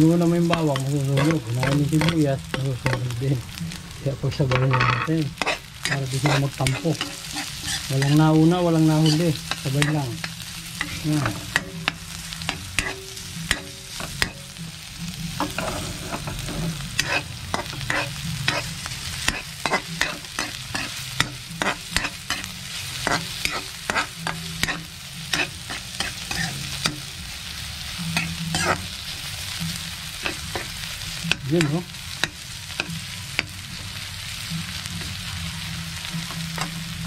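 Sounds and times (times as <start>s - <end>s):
oil sizzling: 0.0s - 37.0s
metal ladle scraping a wok: 0.4s - 3.1s, 4.4s - 14.6s, 15.3s - 27.1s, 28.0s - 33.6s.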